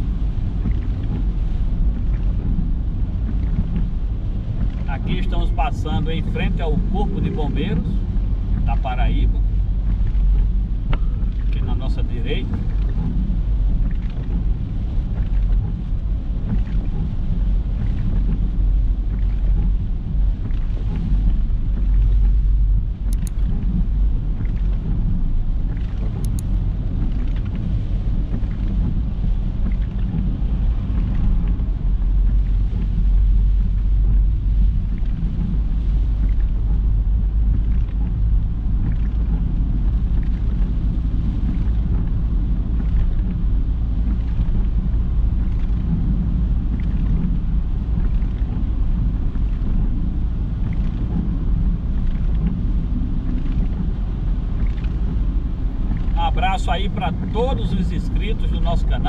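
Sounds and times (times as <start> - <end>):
car engine and road rumble: 0.0 - 59.0
wind on microphone: 0.0 - 59.0.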